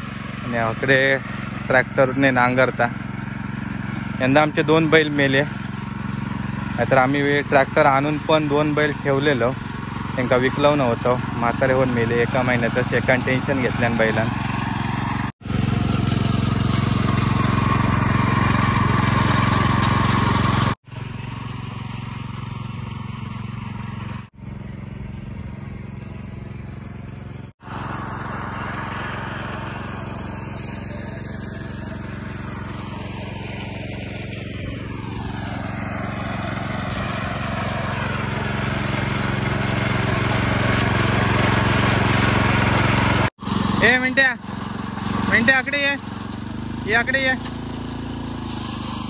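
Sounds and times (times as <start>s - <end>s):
power tiller engine running: 0.0s - 49.0s.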